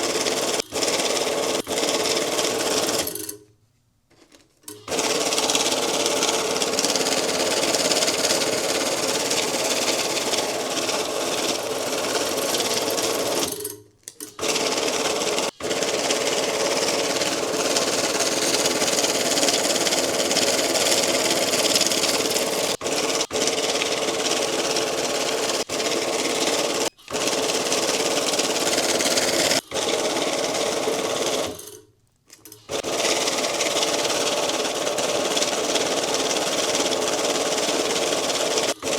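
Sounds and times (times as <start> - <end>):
banknote counting machine rattling: 0.0 - 3.4, 4.7 - 31.8, 32.5 - 38.9.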